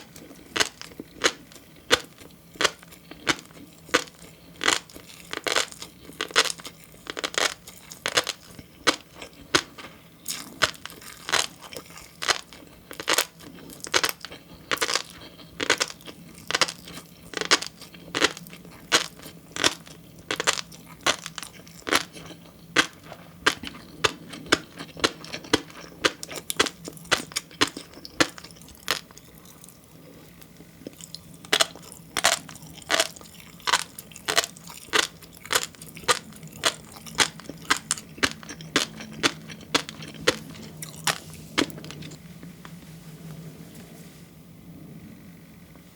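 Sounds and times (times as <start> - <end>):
chewing fish roe popping: 0.0 - 42.2.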